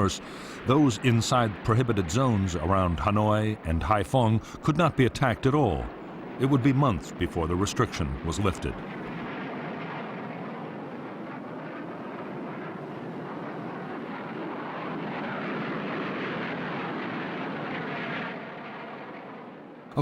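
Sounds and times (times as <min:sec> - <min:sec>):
aircraft engine rushing: 0:00.0 - 0:20.0.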